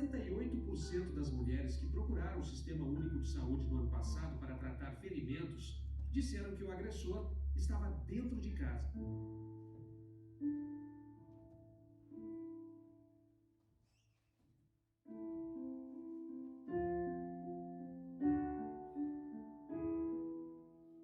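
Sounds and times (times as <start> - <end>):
slow quiet piano music: 0.0 - 14.3, 15.1 - 21.0.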